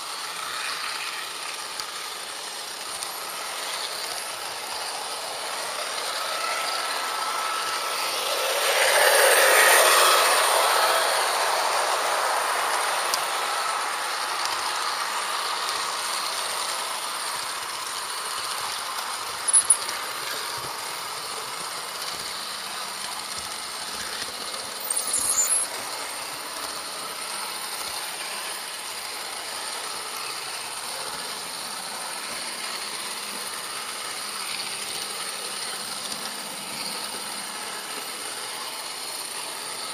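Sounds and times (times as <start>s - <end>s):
model train rattle and hum: 0.0s - 39.9s.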